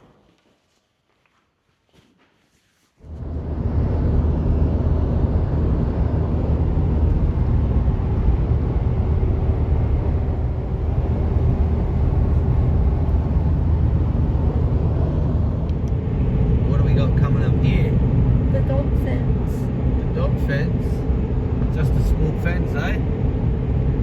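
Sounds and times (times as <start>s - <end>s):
vehicle driving rumble: 3.0s - 24.0s.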